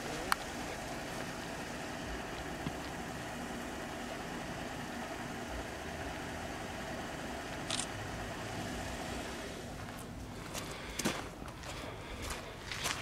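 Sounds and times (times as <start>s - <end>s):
motor idling: 0.0s - 12.6s.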